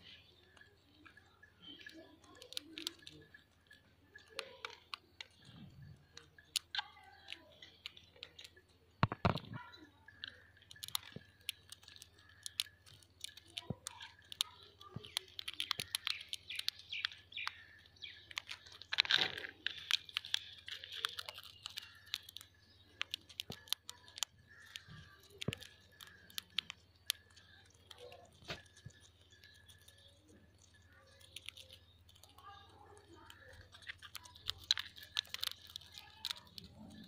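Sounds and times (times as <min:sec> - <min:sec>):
parakeet crunching chickpeas: 0:00.0 - 0:37.0
soft bird chirps: 0:00.0 - 0:37.0.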